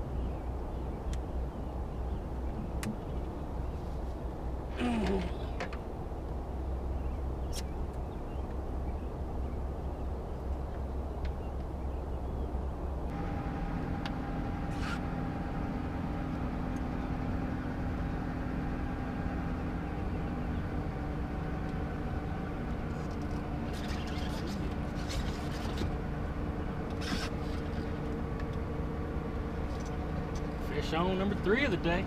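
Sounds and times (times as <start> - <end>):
boat motor rumbling: 0.0 - 32.0.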